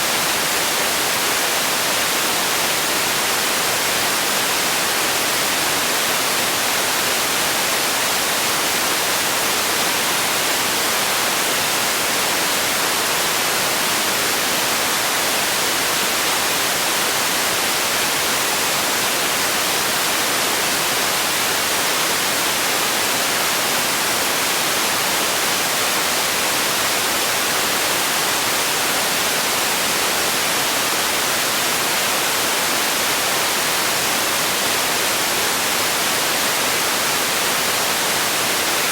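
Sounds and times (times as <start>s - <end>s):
steady noise hiss: 0.0s - 38.9s.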